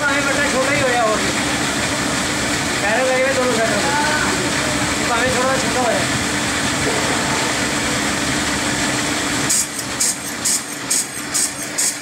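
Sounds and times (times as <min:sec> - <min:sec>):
cutting machine humming: 0:00.0 - 0:10.0.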